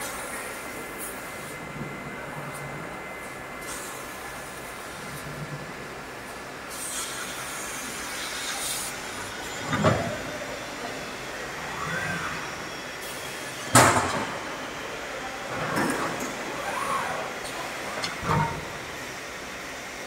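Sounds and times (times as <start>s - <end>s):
machine hum with hissing: 0.0s - 20.0s.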